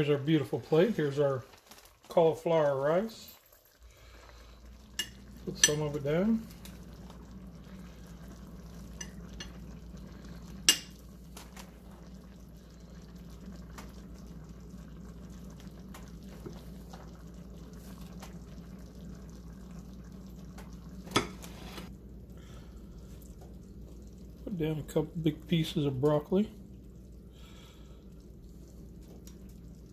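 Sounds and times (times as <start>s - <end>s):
steady low hum: 3.8s - 29.9s.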